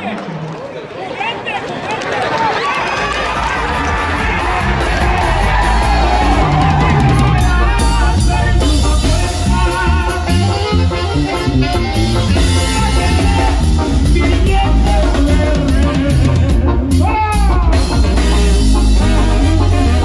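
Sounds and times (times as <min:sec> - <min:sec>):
upbeat latin-style song: 0:03.0 - 0:20.0.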